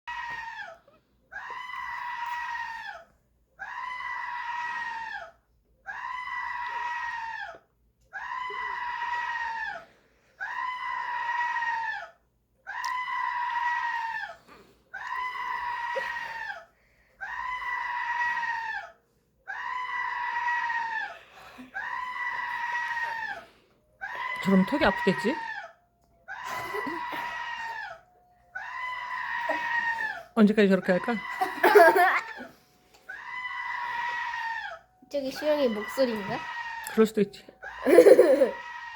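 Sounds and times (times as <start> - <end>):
screaming animal calls: 0.1 - 38.9.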